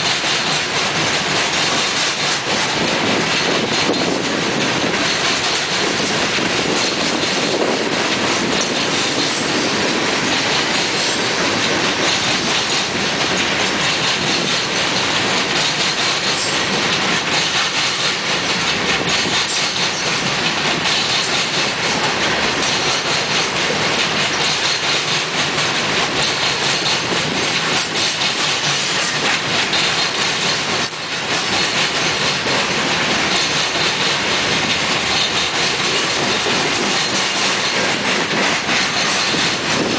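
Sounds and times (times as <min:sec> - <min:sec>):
clicking over rail joints: 0:00.0 - 0:39.9
train wheels rumbling on rail: 0:00.0 - 0:39.9.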